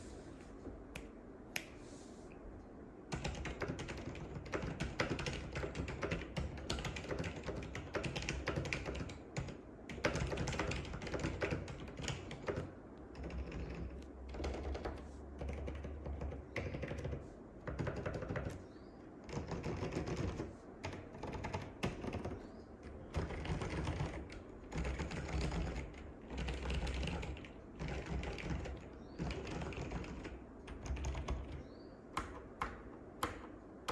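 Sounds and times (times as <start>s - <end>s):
keyboard typing: 3.1s - 18.6s, 19.2s - 33.9s.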